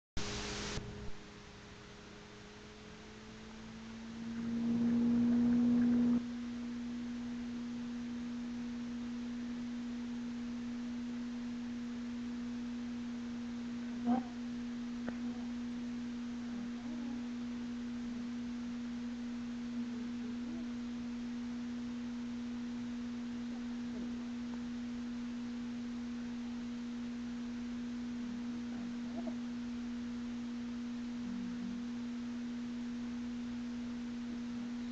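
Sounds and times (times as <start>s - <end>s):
steady humming tone: 0.2s - 34.9s.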